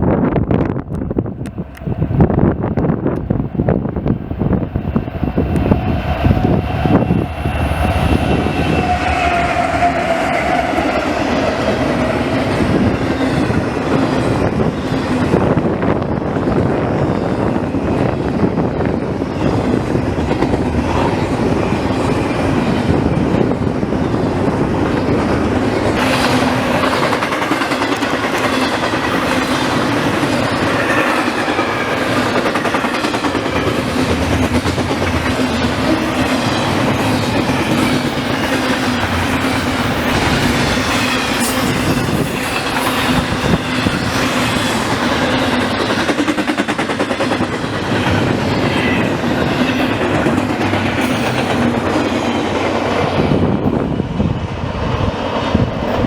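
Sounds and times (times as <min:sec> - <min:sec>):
freight train wheels clacking: 0:00.8 - 0:56.0.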